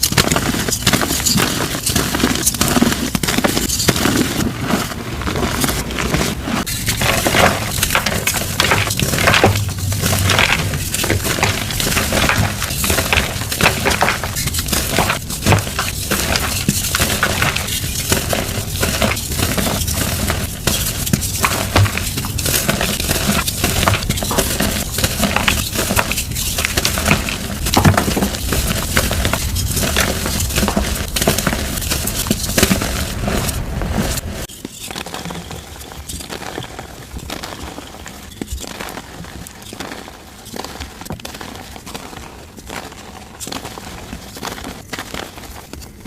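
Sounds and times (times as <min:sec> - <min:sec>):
chalk crunching: 0:00.0 - 0:46.0.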